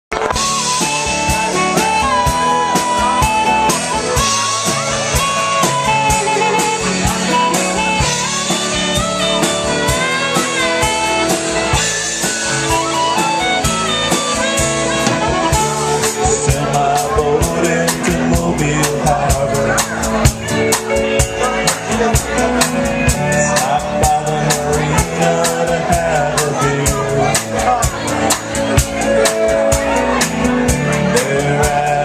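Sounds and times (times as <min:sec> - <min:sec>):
drums keeping a steady beat: 0:00.1 - 0:32.0
held melody notes: 0:00.1 - 0:32.0.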